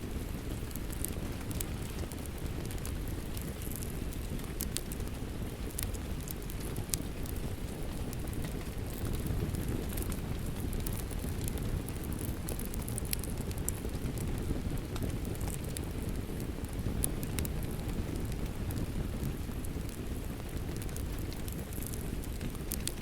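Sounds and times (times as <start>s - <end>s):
steady rain: 0.0s - 23.0s
wood fire crackling: 0.0s - 23.0s.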